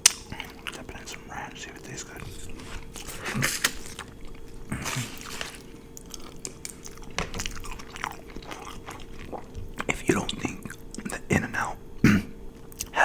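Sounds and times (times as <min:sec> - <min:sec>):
chewing and biting food: 0:00.0 - 0:11.4.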